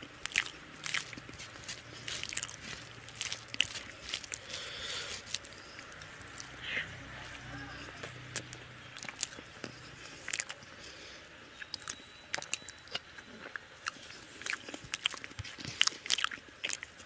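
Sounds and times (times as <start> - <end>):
man chewing with mouth clicks: 0.0 - 17.0.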